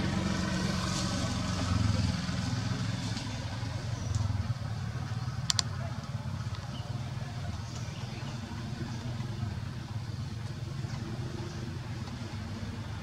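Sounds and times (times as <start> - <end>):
engine rumble: 0.0 - 13.0.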